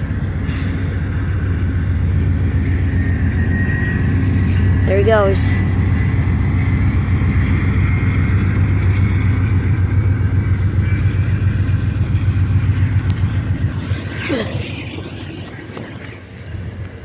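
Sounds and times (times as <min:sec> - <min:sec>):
passenger train rumbling past: 0:00.0 - 0:17.0.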